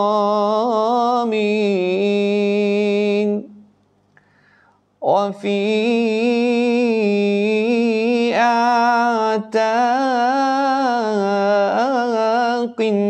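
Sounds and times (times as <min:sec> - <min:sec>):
man singing unaccompanied: 0:00.0 - 0:03.6, 0:05.0 - 0:13.0.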